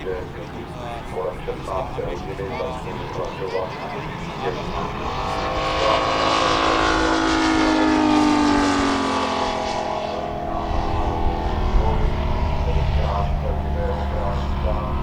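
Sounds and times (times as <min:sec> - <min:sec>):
model airplane engine flying past: 0:00.0 - 0:15.0.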